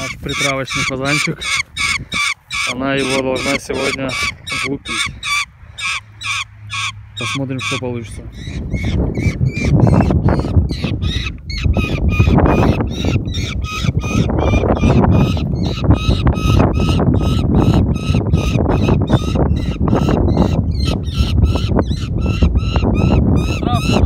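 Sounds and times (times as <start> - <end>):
hawk calling harshly: 0.0 - 24.0
wind on microphone: 0.0 - 24.0.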